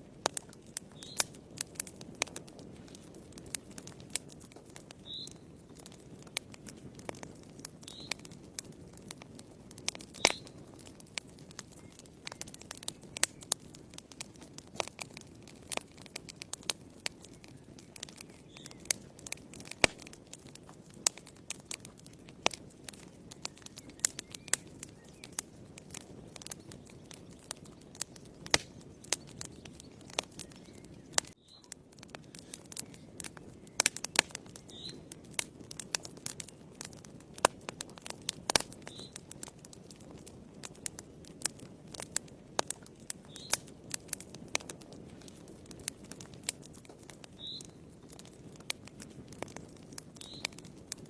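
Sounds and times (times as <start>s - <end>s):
wood fire burning: 0.0s - 51.0s.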